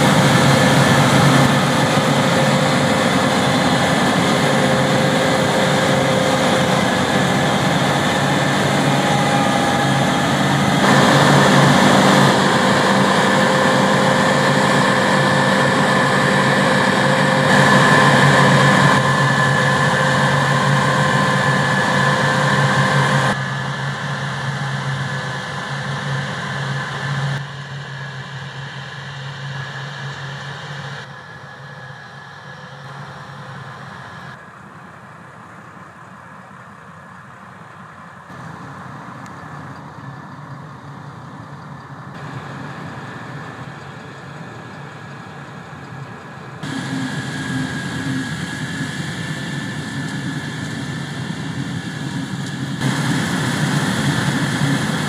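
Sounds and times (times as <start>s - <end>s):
harvest machinery engine hum: 0.0s - 28.8s, 37.6s - 55.0s
thin high machine whine: 0.0s - 34.9s, 38.3s - 55.0s.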